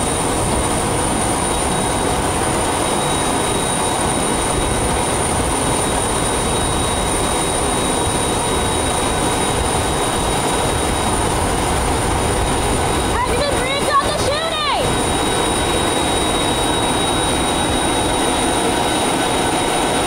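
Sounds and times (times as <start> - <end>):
high-pitched jet whine: 0.0 - 20.0
jet engine roaring: 0.0 - 20.0.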